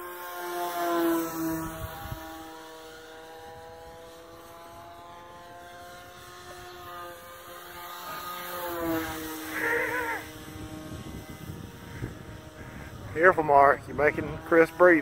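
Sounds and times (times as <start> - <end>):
model plane propeller buzzing: 0.0 - 15.0.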